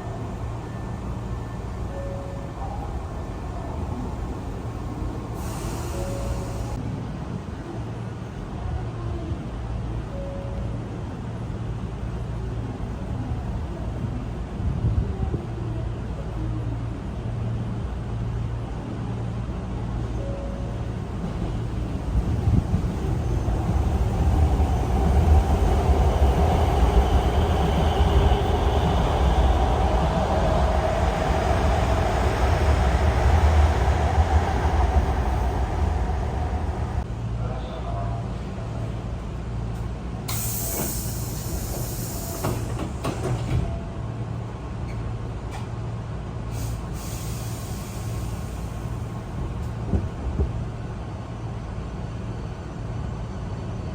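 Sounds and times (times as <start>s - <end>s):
train low rumble: 0.0s - 53.9s.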